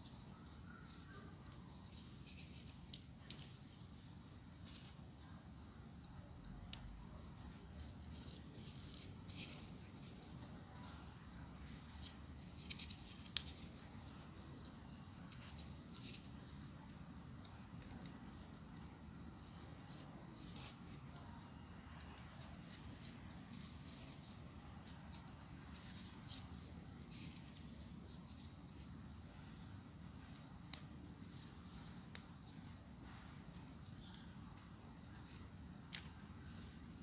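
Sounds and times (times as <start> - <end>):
paper rubbing and scratching: 0.1 - 5.0, 7.1 - 16.9, 17.8 - 37.0.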